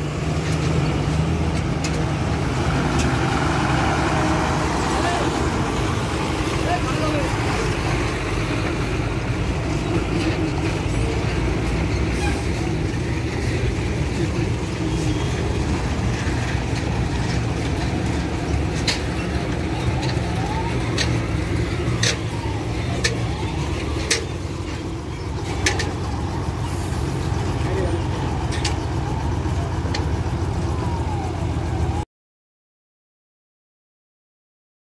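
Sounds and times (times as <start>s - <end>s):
diesel engines rumbling: 0.0s - 32.0s.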